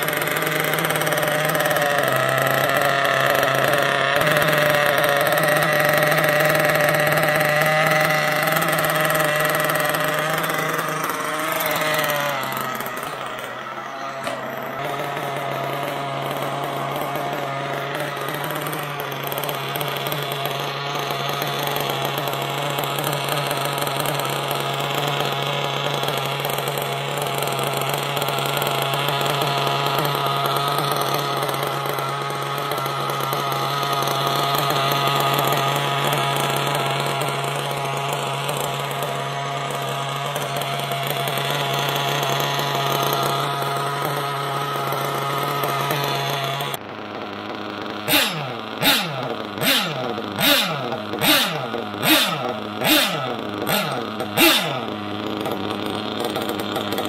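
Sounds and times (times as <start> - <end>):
model car engine idling: 0.0 - 57.0.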